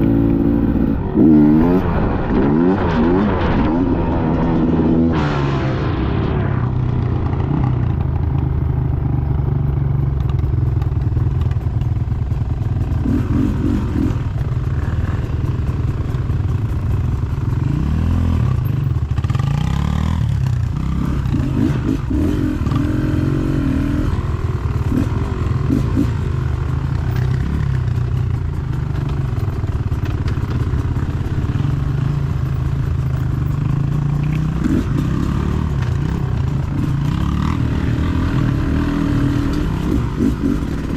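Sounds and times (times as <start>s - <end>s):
dirt bike engine revving: 0.0s - 8.6s, 13.0s - 15.5s, 17.6s - 40.9s.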